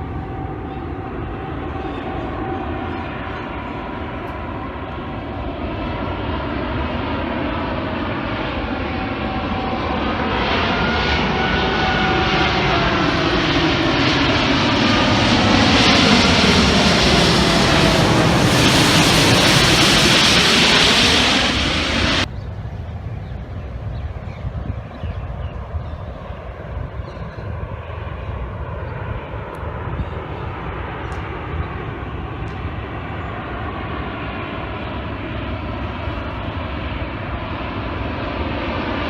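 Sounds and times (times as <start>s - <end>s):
engine drone passing by: 0.0s - 39.0s.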